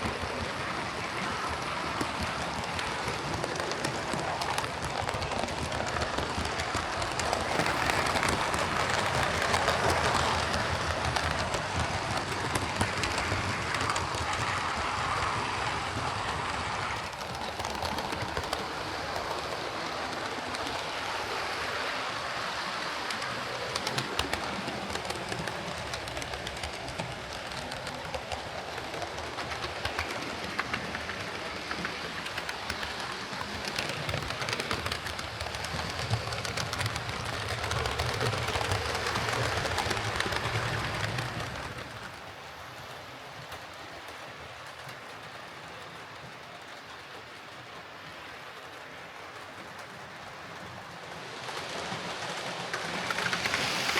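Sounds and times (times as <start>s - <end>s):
model train motor and gear whirr: 0.0s - 53.9s
wheels clicking on rails: 0.0s - 53.9s.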